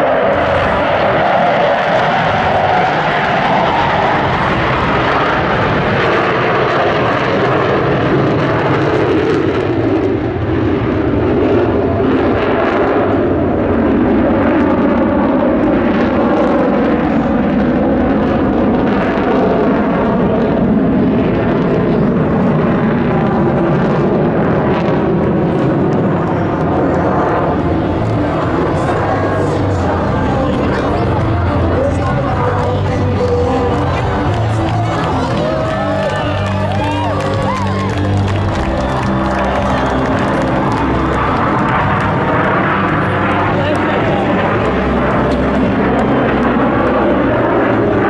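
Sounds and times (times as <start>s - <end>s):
jet engine roar: 0.0s - 48.0s.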